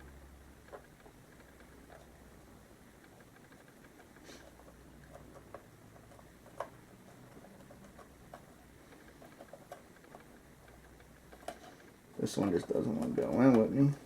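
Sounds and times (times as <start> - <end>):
faint clicks and light scraping: 0.6 - 14.0.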